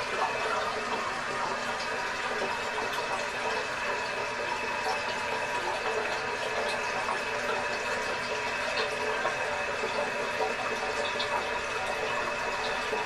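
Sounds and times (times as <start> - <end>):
toilet tank refilling hiss: 0.0 - 13.0.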